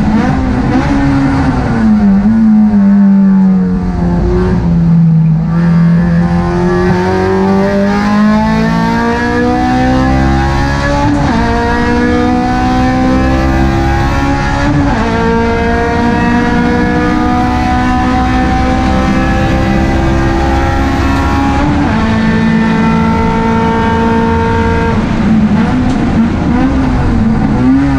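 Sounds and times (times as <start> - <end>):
car engine revving under full throttle: 0.0 - 27.9.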